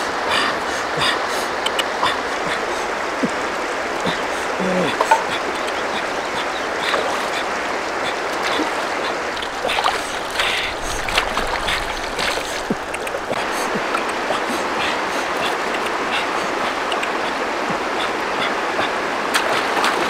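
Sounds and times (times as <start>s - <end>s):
river water running over stones: 0.0s - 20.0s
fish splashing in water: 1.6s - 18.2s, 19.2s - 20.0s.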